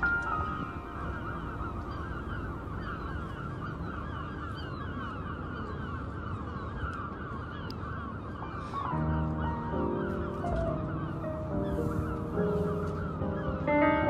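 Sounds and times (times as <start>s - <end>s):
gulls calling: 0.0s - 14.0s.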